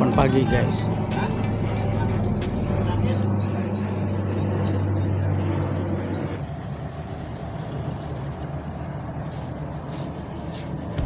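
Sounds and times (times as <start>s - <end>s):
motorcycle engine hum: 0.0s - 11.0s
wind and road noise: 0.0s - 11.0s.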